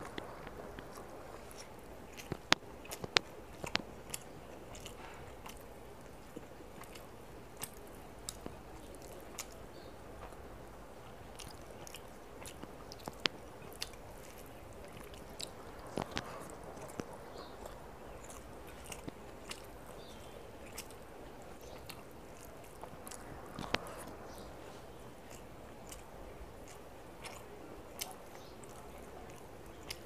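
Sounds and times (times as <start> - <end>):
wet mouth clicks and smacks: 0.0 - 9.6, 11.2 - 21.0, 21.6 - 24.4, 25.3 - 30.0
close chewing and biting: 0.0 - 30.0.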